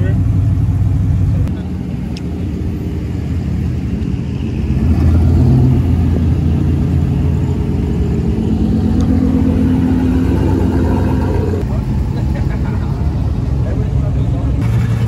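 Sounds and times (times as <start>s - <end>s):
truck engines passing: 0.0s - 15.0s.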